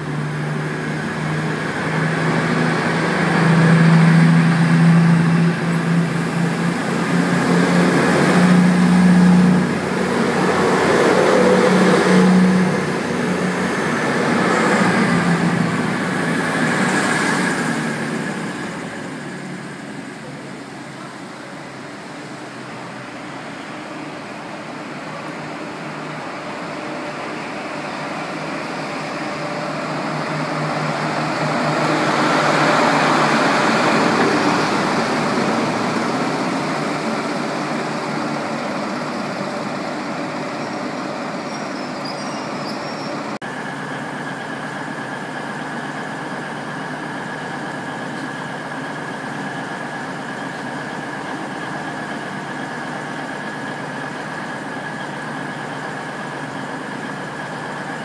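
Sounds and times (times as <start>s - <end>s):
diesel train idling: 0.0s - 58.0s
diesel train passing: 0.0s - 58.0s.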